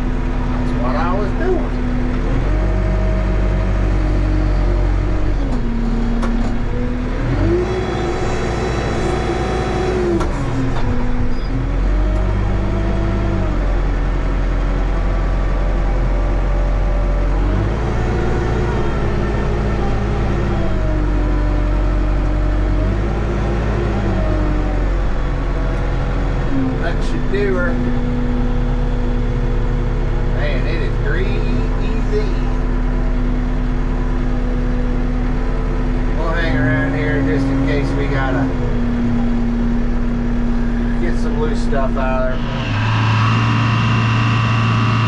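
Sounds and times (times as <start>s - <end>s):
diesel engine revving: 0.0s - 45.0s.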